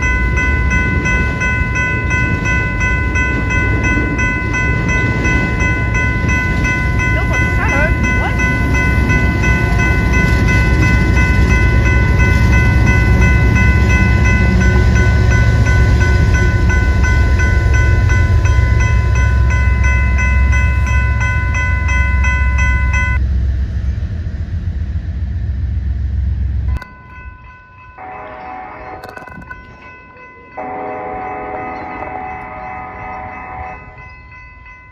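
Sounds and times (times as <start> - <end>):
crossing warning bell ringing: 0.0 - 24.0, 24.8 - 34.9
train rumbling past: 0.0 - 34.9.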